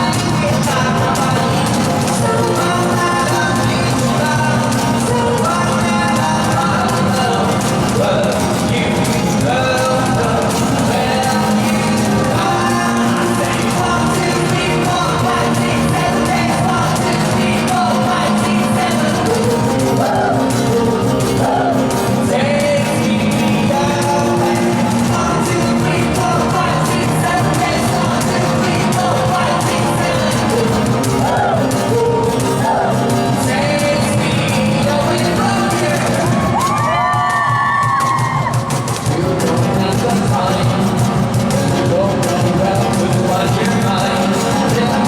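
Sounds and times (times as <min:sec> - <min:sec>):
lead vocals singing: 0:00.0 - 0:45.0
live rock band playing: 0:00.0 - 0:45.0.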